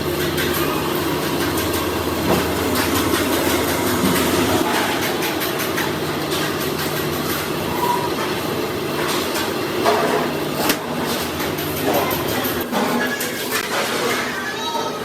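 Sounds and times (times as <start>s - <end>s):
machine rumble with low hum: 0.0s - 13.7s.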